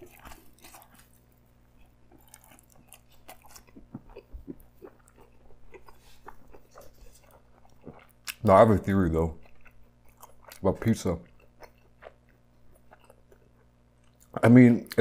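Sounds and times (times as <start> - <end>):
chewing mouth clicks and bites: 0.0 - 8.4, 9.4 - 14.4.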